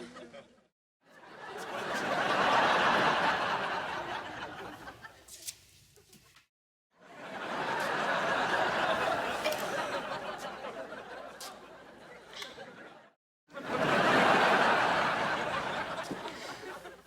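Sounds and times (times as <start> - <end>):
sitcom audience laughter: 0.0 - 5.2, 7.0 - 17.0.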